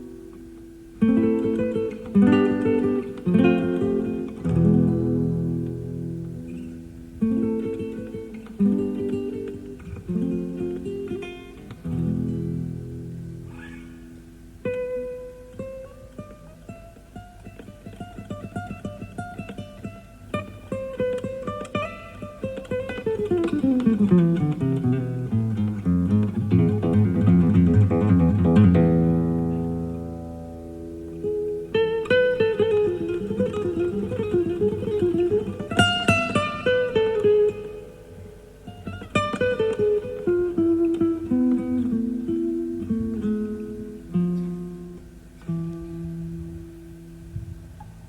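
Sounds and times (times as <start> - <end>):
classical guitar playing: 0.0 - 48.0.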